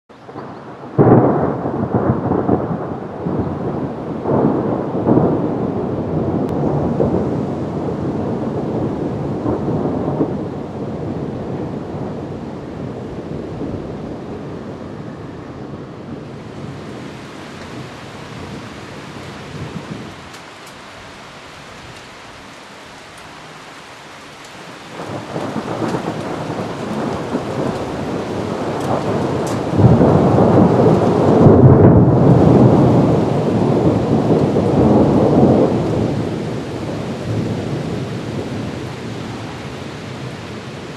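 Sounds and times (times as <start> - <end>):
rain falling: 0.1 - 40.9
thunder clap and rumble: 0.3 - 20.8, 24.4 - 40.9.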